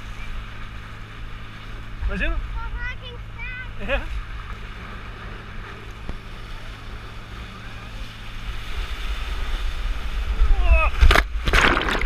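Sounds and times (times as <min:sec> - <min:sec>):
water rushing and spraying: 0:00.0 - 0:12.0.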